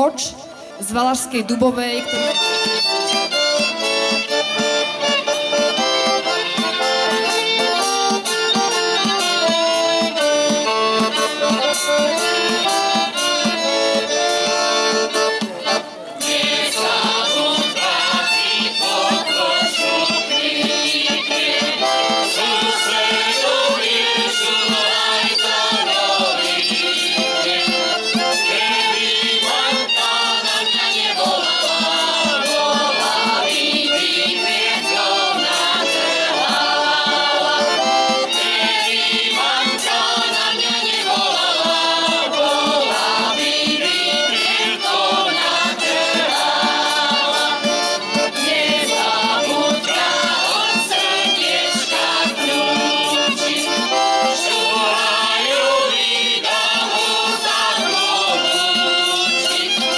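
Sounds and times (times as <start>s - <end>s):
accordion: 0.0s - 59.9s
fiddle: 0.0s - 59.9s
folk choir singing: 2.1s - 59.9s.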